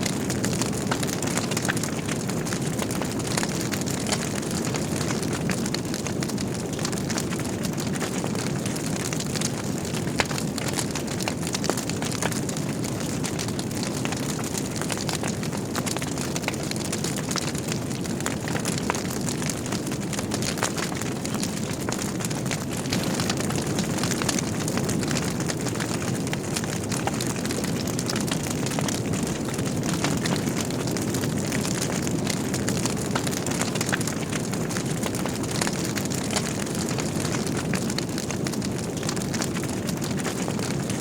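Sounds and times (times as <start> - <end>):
fire burning with crackles and pops: 0.0 - 41.0.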